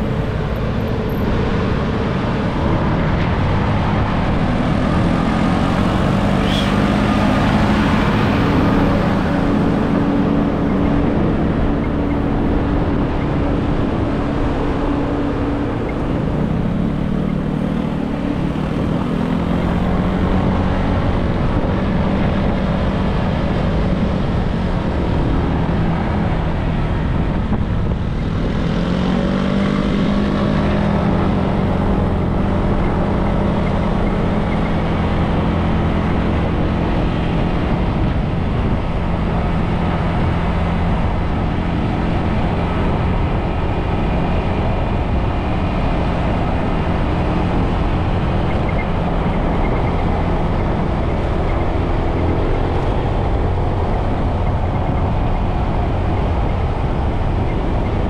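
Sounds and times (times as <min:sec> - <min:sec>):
wind and road rush: 0:00.0 - 0:58.0.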